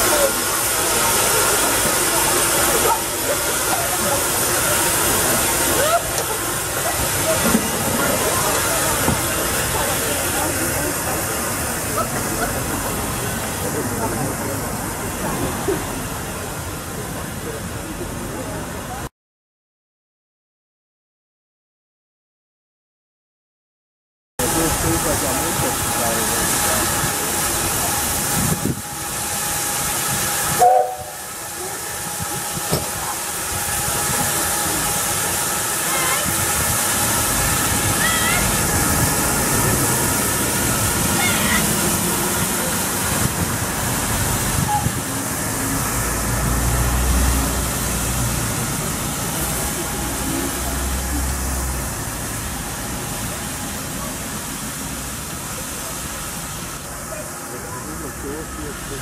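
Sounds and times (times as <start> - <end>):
steam locomotive hissing steam: 0.0 - 19.1, 24.4 - 59.0.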